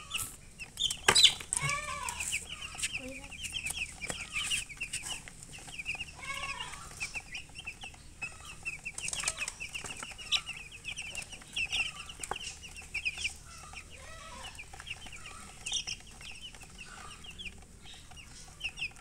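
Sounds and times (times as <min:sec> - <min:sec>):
chicks peeping: 0:00.0 - 0:19.0
hen clucking: 0:00.0 - 0:19.0.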